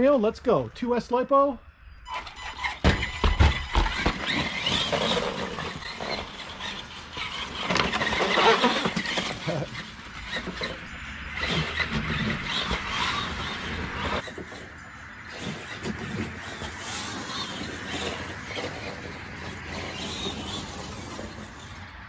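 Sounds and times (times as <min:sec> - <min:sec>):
rc truck driving on wet gravel: 0:02.1 - 0:22.0.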